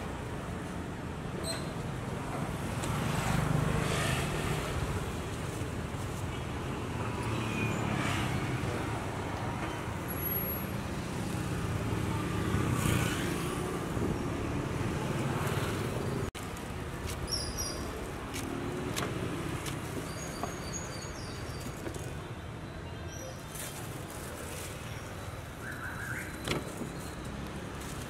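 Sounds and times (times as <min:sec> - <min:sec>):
rumble of passing vehicles: 0:00.0 - 0:28.0.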